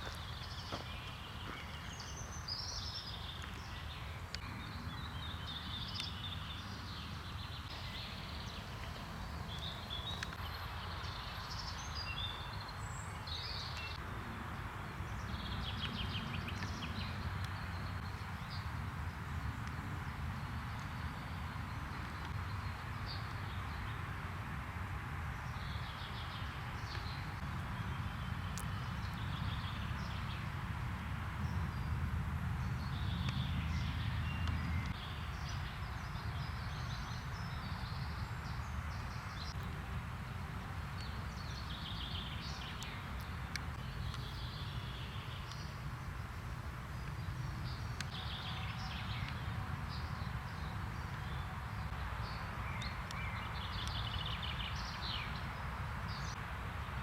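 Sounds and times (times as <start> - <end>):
birds chirping: 0.0 - 24.4, 32.6 - 39.8, 40.9 - 57.0.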